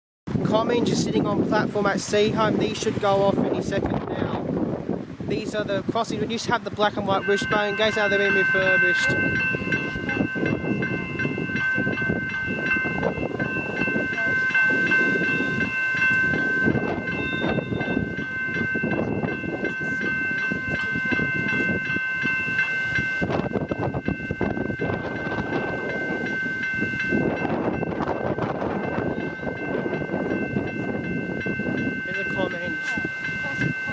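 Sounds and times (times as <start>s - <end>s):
level crossing warning bells: 5.4s - 33.9s.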